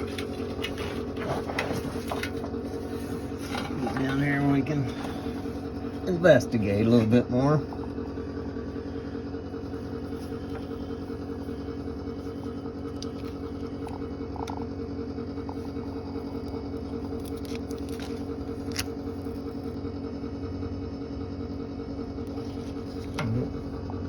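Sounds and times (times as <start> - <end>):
bus engine idling: 2.0 - 24.0.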